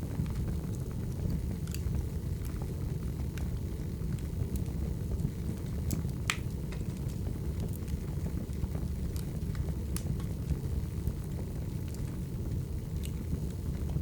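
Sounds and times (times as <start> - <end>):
firewood crackles and pops: 0.0 - 14.0
wood fire low rumble: 0.0 - 14.0.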